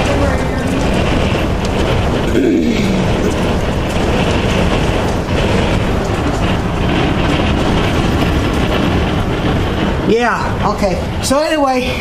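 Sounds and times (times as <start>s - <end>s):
storm wind rushing: 0.0s - 12.0s
wind buffeting microphone: 0.0s - 12.0s.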